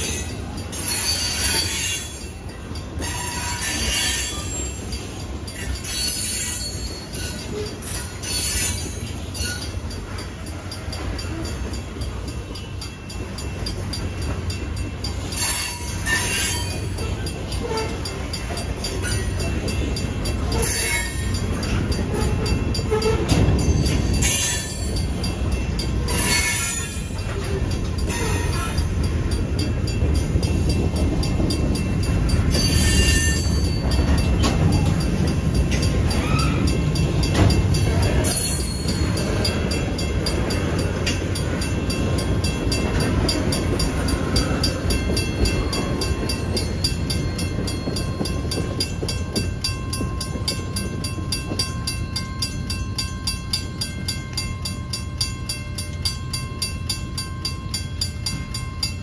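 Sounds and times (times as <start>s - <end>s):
train wheels squealing: 0.0s - 11.8s, 15.1s - 52.5s
crossing bell ringing: 0.0s - 59.0s
train wheels rumbling on rail: 0.0s - 59.0s.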